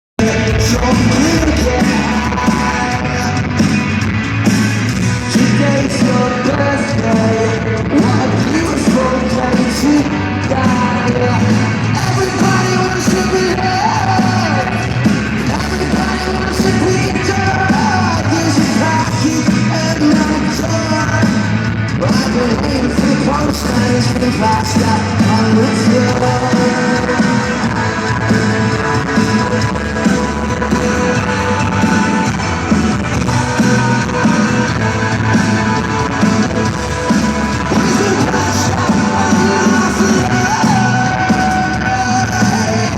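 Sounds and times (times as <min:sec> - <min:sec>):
person singing: 0:00.2 - 0:04.0, 0:05.0 - 0:42.9
electric guitar: 0:00.2 - 0:42.9
live rock band playing: 0:00.2 - 0:42.9.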